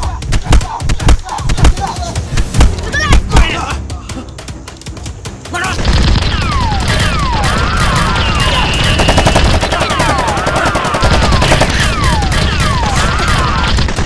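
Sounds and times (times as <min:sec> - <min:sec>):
rapid gunfire effects: 0:00.0 - 0:03.5, 0:05.1 - 0:14.0.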